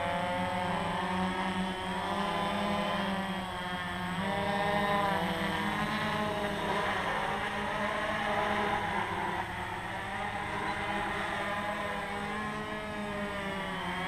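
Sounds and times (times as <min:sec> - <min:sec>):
drone motors whirring: 0:00.0 - 0:14.0.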